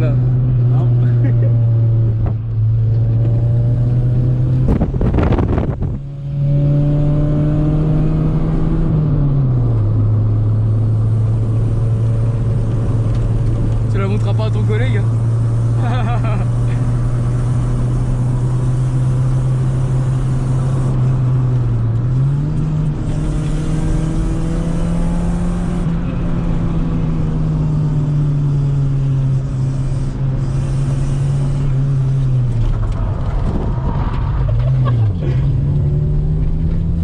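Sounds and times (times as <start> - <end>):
car engine and exhaust drone: 0.0 - 37.0.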